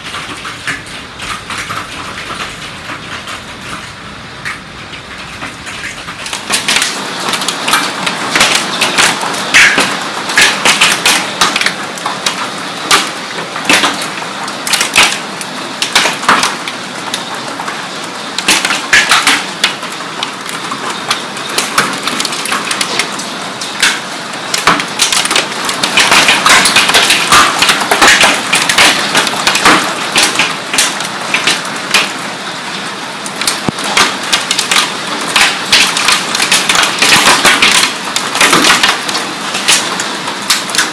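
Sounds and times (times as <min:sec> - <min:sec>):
hail clattering on hard surfaces: 0:00.0 - 0:40.9
rain-like hiss: 0:00.0 - 0:40.9.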